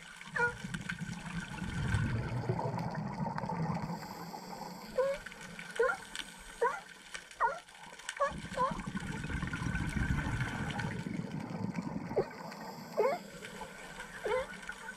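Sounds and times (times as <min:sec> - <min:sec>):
underwater exhaust bubbles: 0:00.0 - 0:14.9
sea lions calling underwater: 0:00.3 - 0:14.9.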